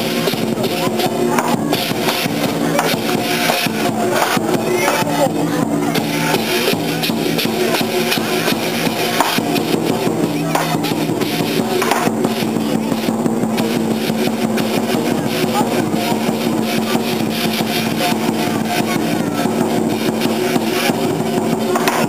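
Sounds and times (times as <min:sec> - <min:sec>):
cymbals clashing: 0:00.0 - 0:22.0
drum beating: 0:00.0 - 0:22.0.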